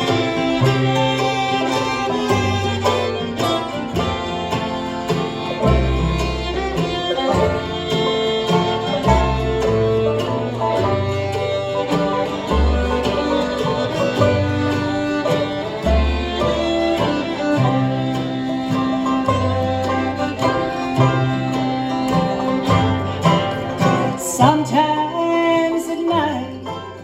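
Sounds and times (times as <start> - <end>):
banjo: 0.0 - 27.0
bass: 0.0 - 27.0
fiddle: 0.0 - 27.0
guitar: 0.0 - 27.0
mandolin: 0.0 - 27.0.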